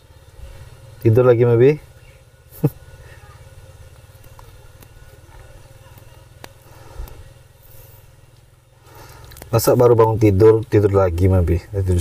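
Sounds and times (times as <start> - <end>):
low pulsing engine-like hum: 0.0 - 12.0.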